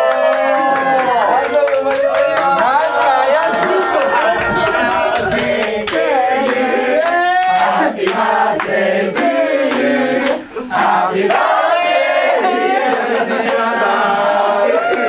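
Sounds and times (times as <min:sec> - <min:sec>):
hand claps: 0:00.0 - 0:11.5, 0:12.8 - 0:15.0
group singing: 0:02.4 - 0:15.0.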